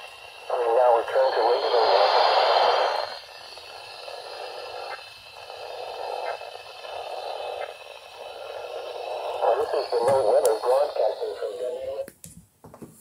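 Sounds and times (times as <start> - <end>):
radio static: 0.0 - 12.1.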